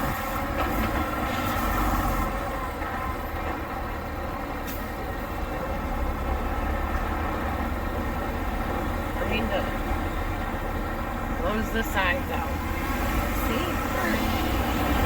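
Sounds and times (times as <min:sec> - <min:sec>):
truck diesel engine rumbling: 0:00.0 - 0:15.0.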